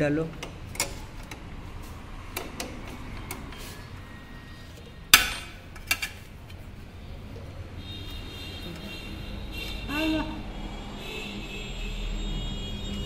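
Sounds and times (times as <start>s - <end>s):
low background noise: 0.0s - 10.7s.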